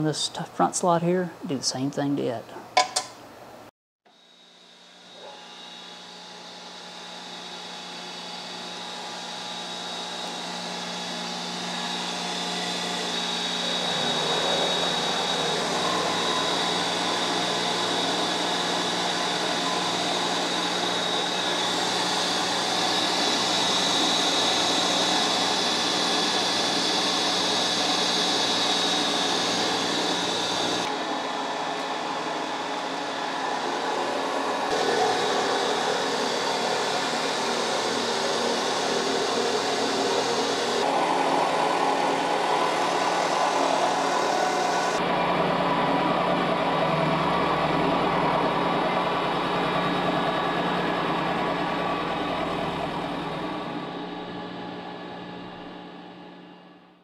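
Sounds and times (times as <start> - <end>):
milling machine cutting: 6.6 - 54.1
thin high whine: 8.1 - 56.6.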